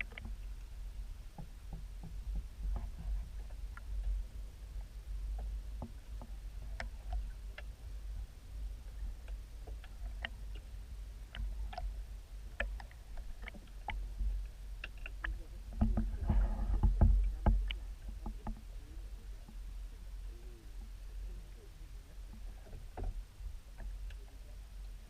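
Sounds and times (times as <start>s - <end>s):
underwater clicks and ticks: 0.0s - 25.0s
underwater low rumble: 0.0s - 25.0s.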